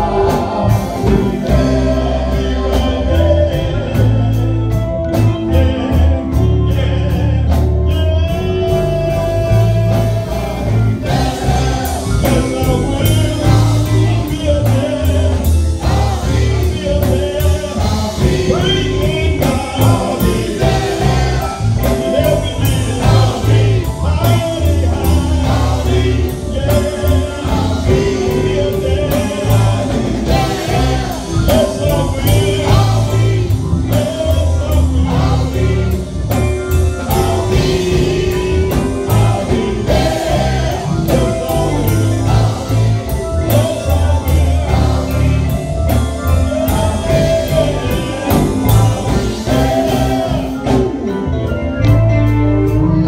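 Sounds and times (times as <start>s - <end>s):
male vocal group singing: 0.0s - 52.0s
drum kit: 0.0s - 53.0s
electric guitars: 0.0s - 53.0s.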